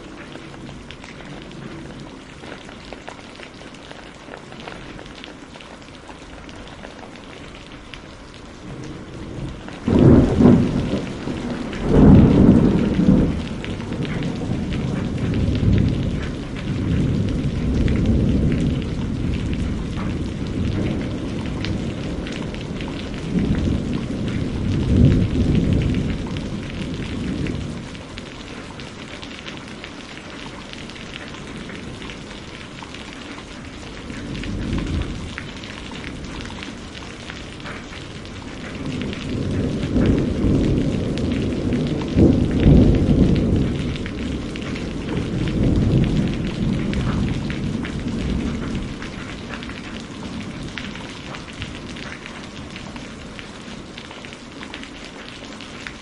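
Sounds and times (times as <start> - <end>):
rain pattering: 0.0 - 56.0
thunder rumbling: 6.8 - 54.5.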